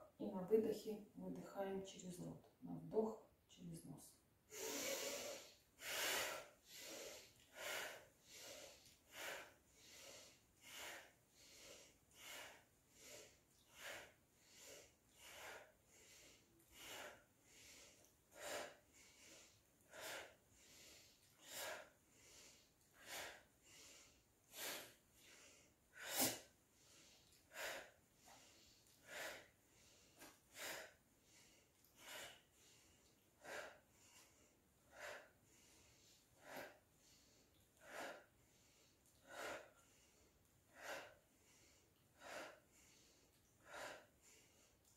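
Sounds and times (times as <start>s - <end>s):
sharp rhythmic exhalations: 4.5s - 44.9s.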